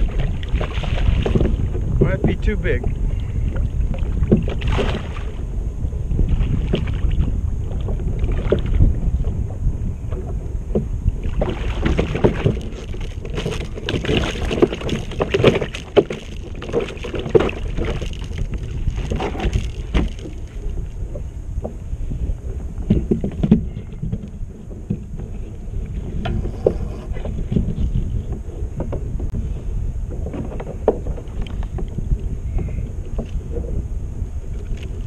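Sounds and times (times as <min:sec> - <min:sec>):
water lapping at kayak hull: 0:00.0 - 0:35.0
wind buffeting microphone: 0:00.0 - 0:35.0.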